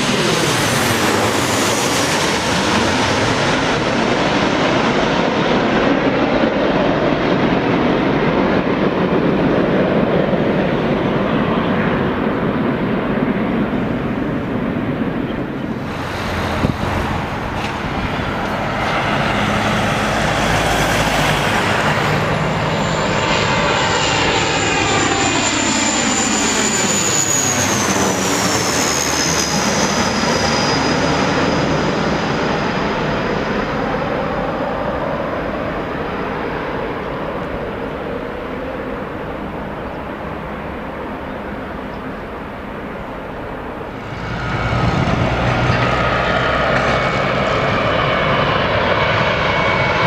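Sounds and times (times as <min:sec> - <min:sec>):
jet airliner passing low: 0:00.0 - 0:50.0.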